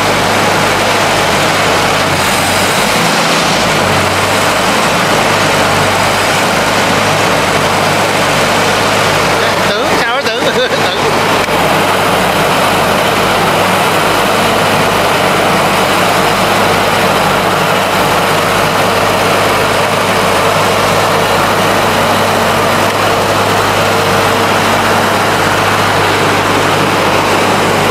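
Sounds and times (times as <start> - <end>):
loud constant low hum: 0.0 - 27.9.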